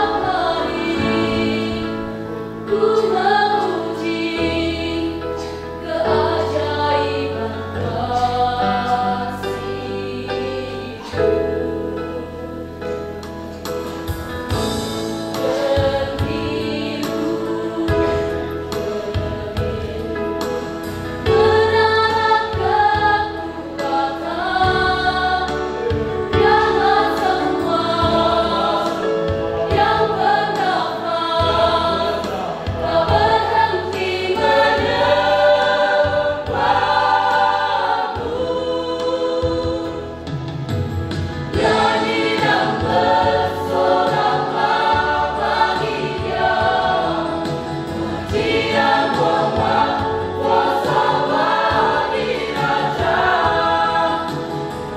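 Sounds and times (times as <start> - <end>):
choir singing gospel song: 0.0 - 54.9.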